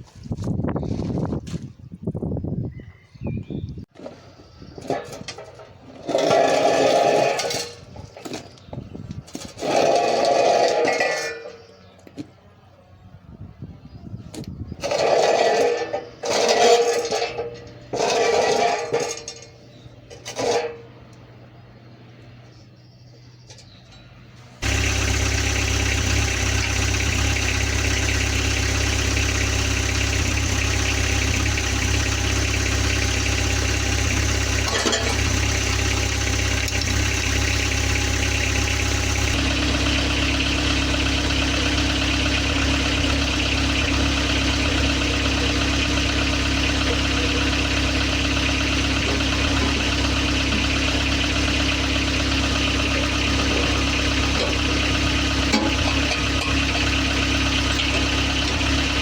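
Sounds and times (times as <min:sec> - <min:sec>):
engine idling through exhaust: 0:03.9 - 0:59.0.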